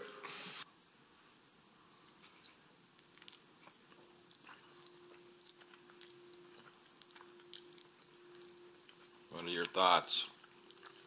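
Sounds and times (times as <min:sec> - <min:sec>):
faint steady hum: 0:00.0 - 0:11.0
chewing: 0:02.1 - 0:11.0.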